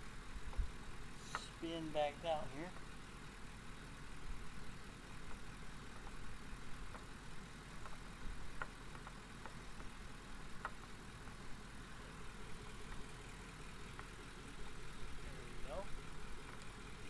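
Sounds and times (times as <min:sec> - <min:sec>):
pickup truck engine idling: 0:00.0 - 0:17.0.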